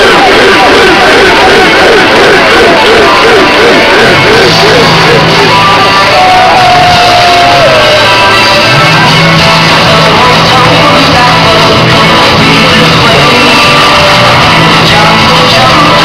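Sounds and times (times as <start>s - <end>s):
dance music with singing: 0.0s - 16.0s
sustained bass line: 0.0s - 16.0s.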